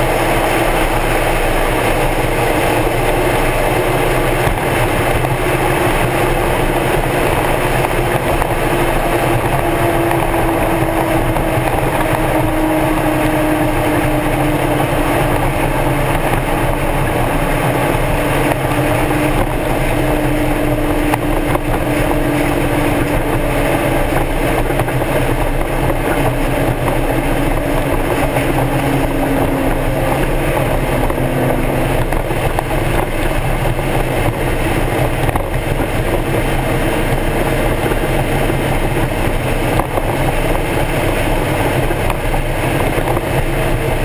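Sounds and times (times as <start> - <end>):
car engine at low revs: 0.0 - 44.0
road and wind noise: 0.0 - 44.0.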